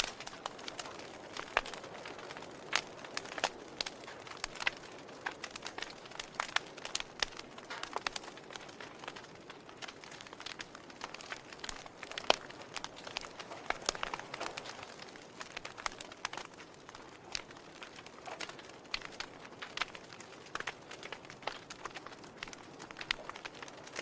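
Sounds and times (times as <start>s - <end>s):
fire crackling and popping: 0.0s - 24.0s
soft steady hiss: 0.0s - 24.0s.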